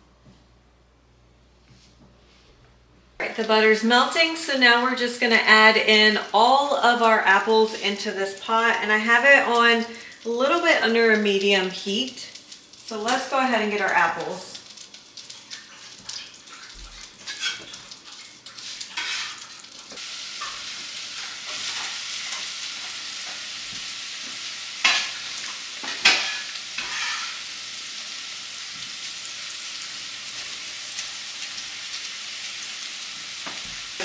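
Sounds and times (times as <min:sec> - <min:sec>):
apples sizzling in butter: 0:05.7 - 0:34.0.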